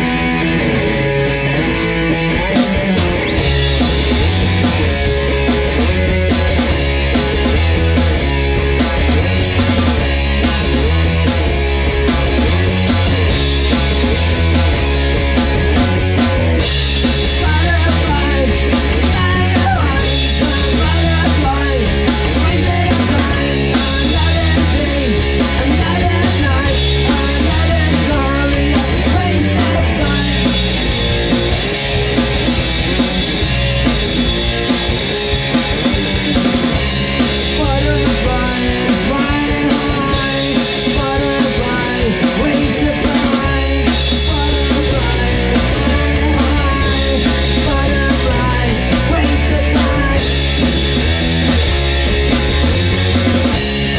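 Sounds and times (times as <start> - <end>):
rock song with bass and drums: 0.0 - 53.9.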